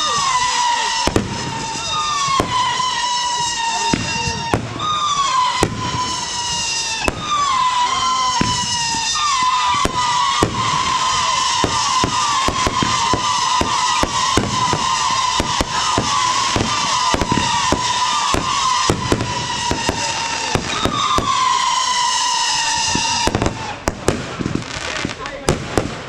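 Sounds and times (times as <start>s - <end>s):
firework whistling: 0.0s - 26.0s.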